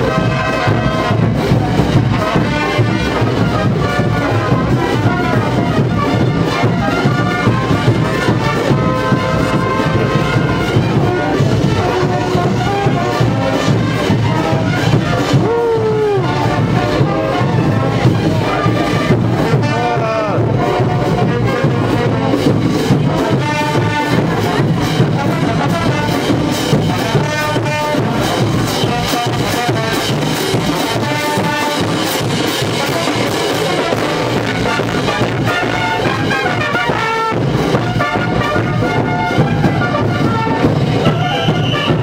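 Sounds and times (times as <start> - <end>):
brass band playing: 0.0 - 42.0.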